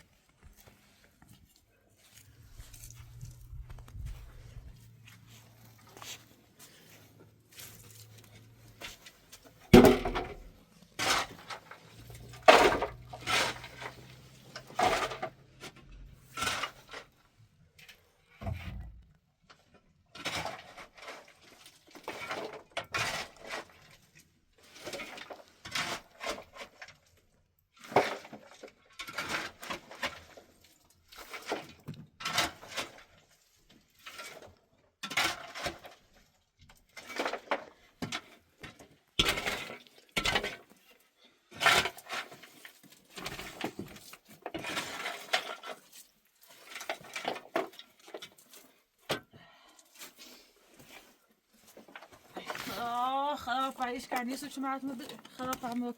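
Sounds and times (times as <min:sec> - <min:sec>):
clatter of hard objects: 0:07.5 - 0:55.9.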